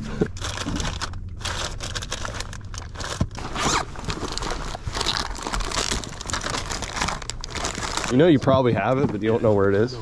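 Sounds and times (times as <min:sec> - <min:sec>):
plastic packs rustling: 0:00.0 - 0:10.0.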